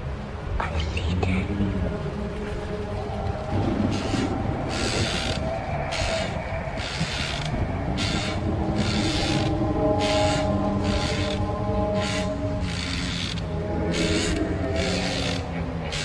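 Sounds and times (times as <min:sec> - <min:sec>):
low rumble: 0:00.0 - 0:16.0
steady droning tones: 0:00.0 - 0:16.0
rasping grating strokes: 0:01.8 - 0:16.0.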